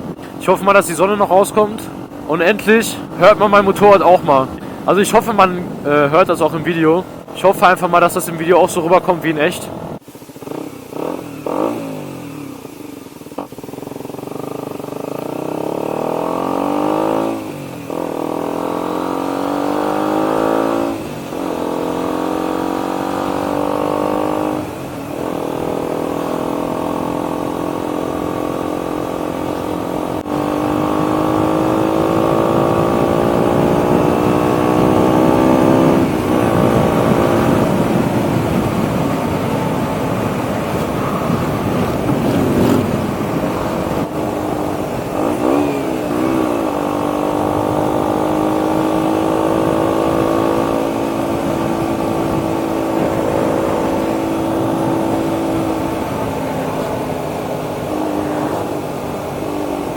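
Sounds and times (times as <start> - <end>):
motorcycle engine accelerating: 9.7 - 59.9.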